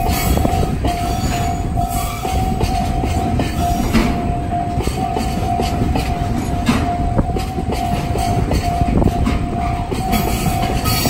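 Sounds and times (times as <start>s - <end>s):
freight train rumbling: 0.0s - 11.0s
level crossing warning bell: 0.0s - 11.0s
train wheels clacking over rail joints: 0.0s - 11.0s.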